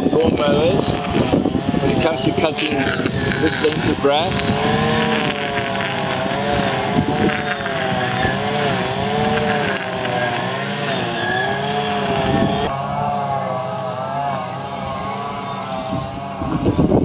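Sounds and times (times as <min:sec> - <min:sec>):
brush cutter engine cutting grass: 0:00.0 - 0:16.6.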